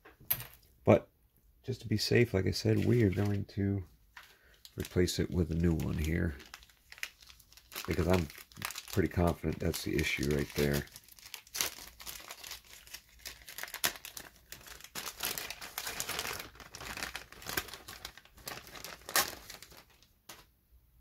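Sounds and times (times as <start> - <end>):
plastic bag crinkling: 2.6 - 3.5, 4.2 - 20.4.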